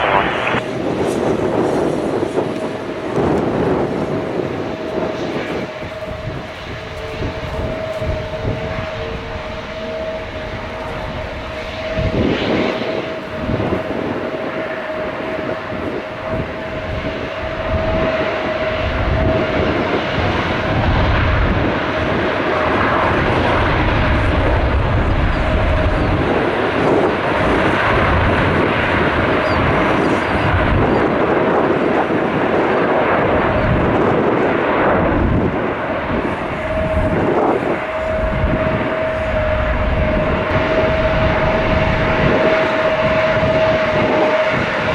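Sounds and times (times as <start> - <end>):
jet engine roar with whine: 0.0 - 44.9.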